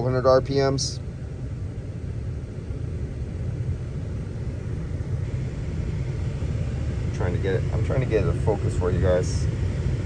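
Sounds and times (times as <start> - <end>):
engine idling with low rumble: 0.0 - 10.0.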